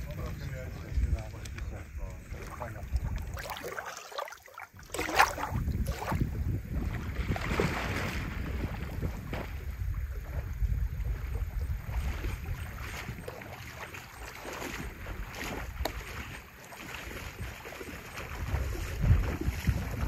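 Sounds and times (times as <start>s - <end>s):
wind buffeting microphone: 0.0s - 3.9s, 4.7s - 20.0s
lake water lapping: 0.0s - 20.0s.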